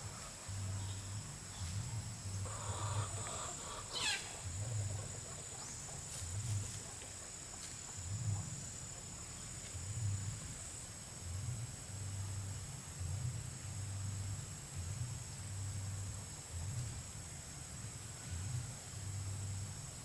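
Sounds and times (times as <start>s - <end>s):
insects droning: 0.0s - 20.0s
low pulsing sound: 0.0s - 20.0s.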